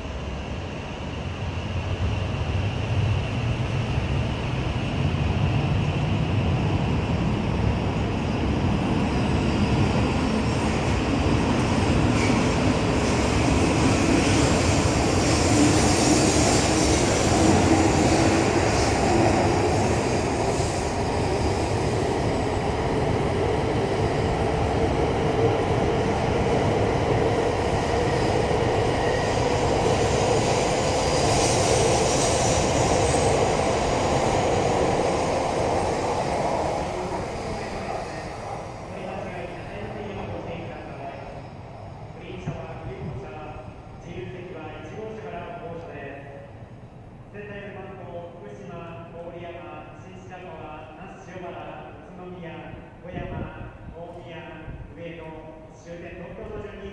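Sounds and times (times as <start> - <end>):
train cars rumbling past: 0.0 - 45.6.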